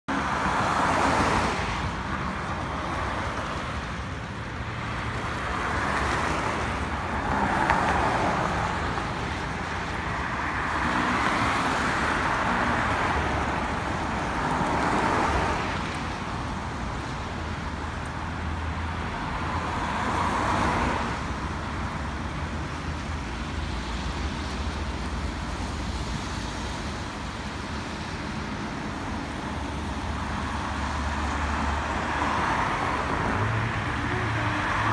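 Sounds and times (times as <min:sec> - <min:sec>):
cars passing: 0:00.1 - 0:34.9.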